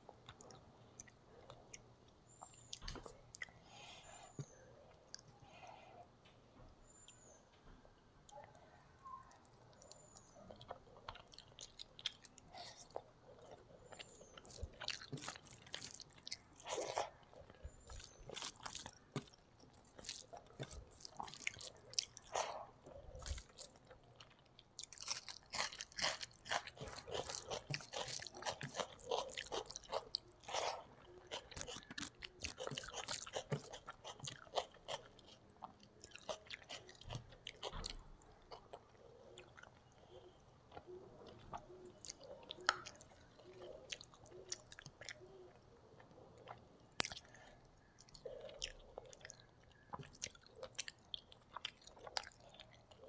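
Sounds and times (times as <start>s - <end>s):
chewing with wet mouth clicks: 8.3s - 53.0s.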